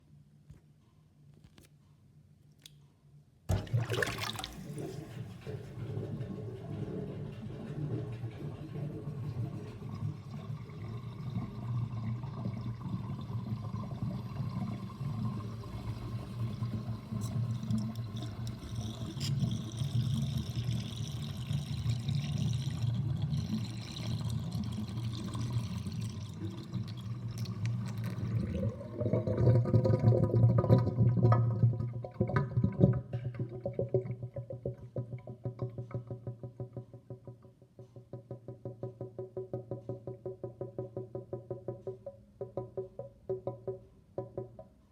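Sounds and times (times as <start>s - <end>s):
sink draining with gurgle: 3.5s - 44.6s.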